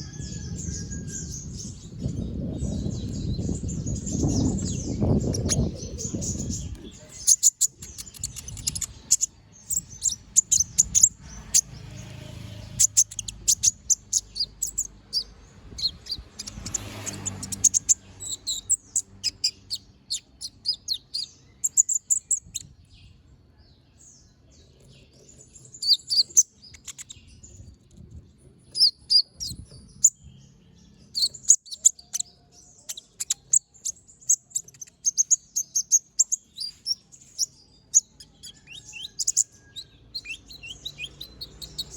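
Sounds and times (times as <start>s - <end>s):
sunbird chattering song: 0.0s - 41.9s.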